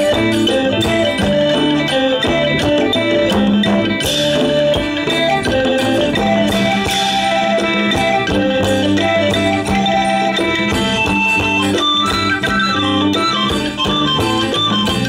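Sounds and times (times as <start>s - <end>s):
folk music ensemble: 0.0s - 15.0s
steady percussion beat: 0.0s - 15.0s.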